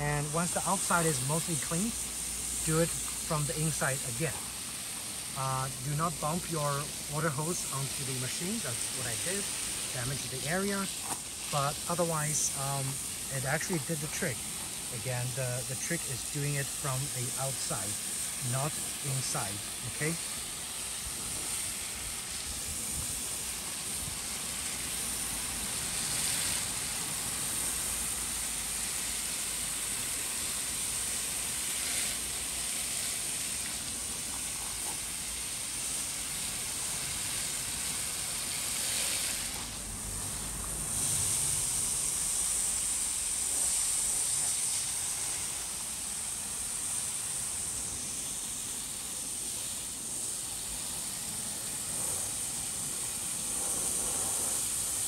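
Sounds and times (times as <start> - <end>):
garden hose spraying water: 0.0 - 55.0.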